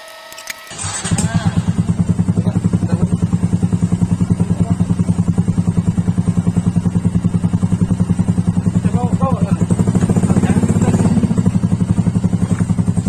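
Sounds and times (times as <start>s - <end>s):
scooter engine idling: 0.7s - 13.0s.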